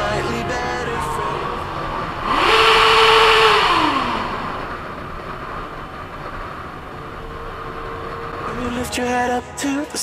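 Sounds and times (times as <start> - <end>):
motorcycle engine revving: 0.0 - 9.0
wind and road noise: 0.0 - 10.0.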